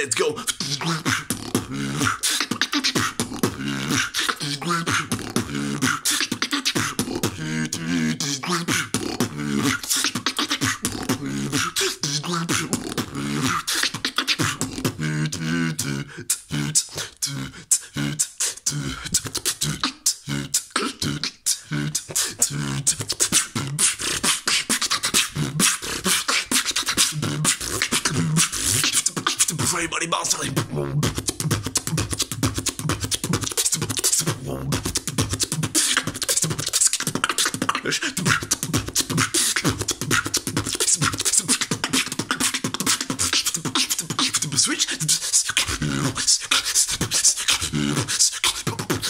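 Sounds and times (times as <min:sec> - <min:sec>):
person beatboxing: 0:00.0 - 0:49.0.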